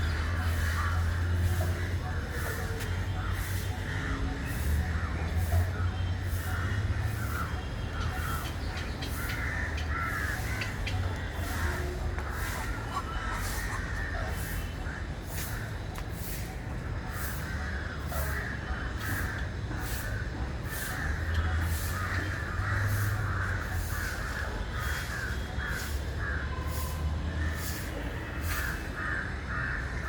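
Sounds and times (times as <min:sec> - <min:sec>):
birds calling and chattering: 0:00.0 - 0:30.0.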